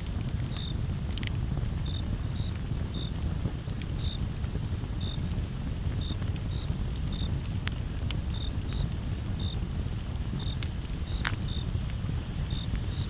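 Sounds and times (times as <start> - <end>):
campfire crackling and popping: 0.0 - 13.0
crickets chirping: 0.0 - 13.0
low steady rumble: 0.0 - 13.0
high insect hiss: 0.1 - 13.0.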